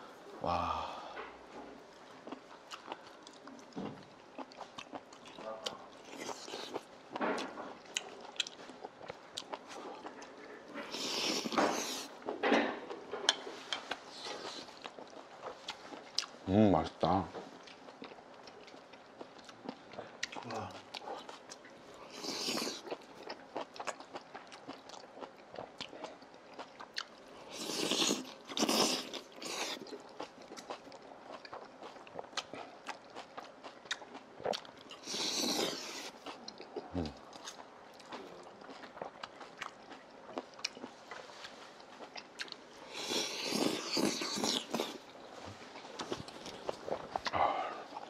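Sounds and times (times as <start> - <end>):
chewing: 1.9 - 48.0.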